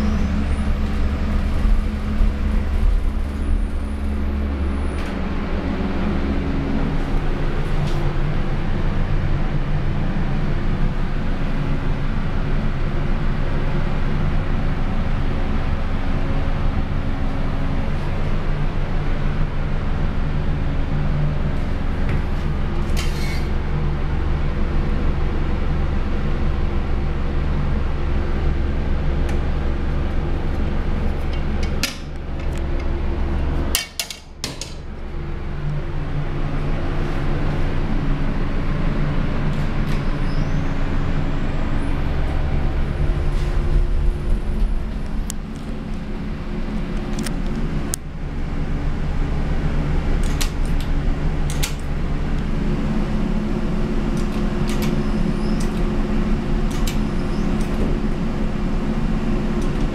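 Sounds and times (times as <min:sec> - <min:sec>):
elevator machine hum: 0:00.0 - 0:59.9.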